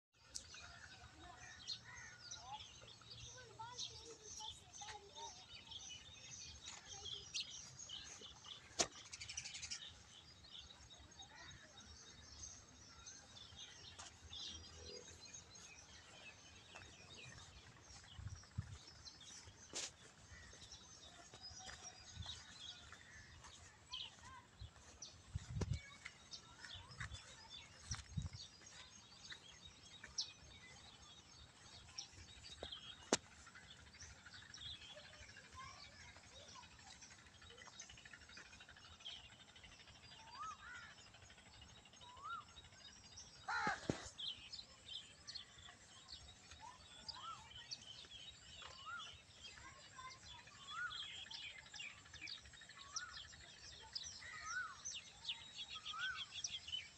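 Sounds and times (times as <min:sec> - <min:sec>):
faint birds chirping: 0:00.1 - 0:56.9.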